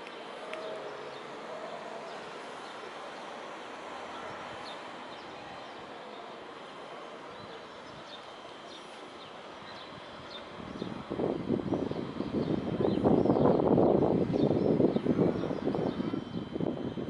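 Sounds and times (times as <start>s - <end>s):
city background noise: 0.0s - 17.0s.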